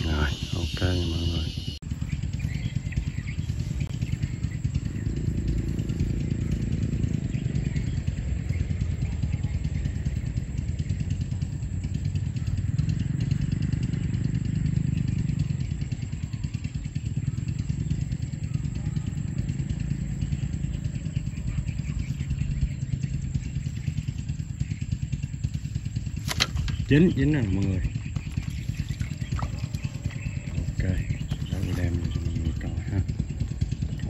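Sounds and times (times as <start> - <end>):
small engine chugging: 0.0 - 34.0.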